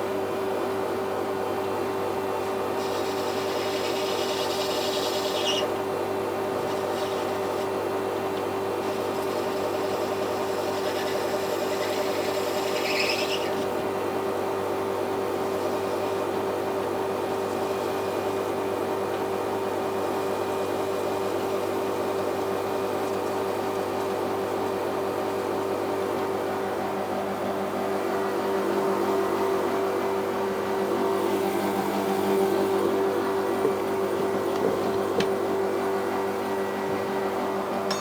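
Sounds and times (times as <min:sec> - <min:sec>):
metal lathe motor hum: 0:00.7 - 0:20.1, 0:22.0 - 0:38.0.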